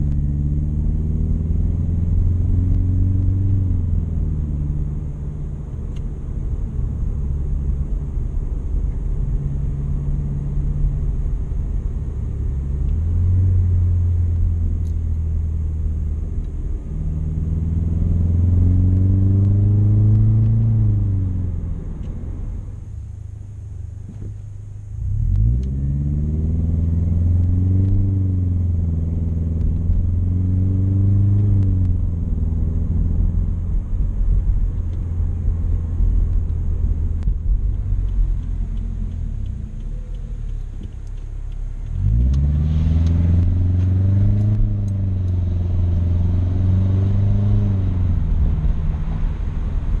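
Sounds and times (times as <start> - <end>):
car engine exhaust drone: 0.0 - 50.0.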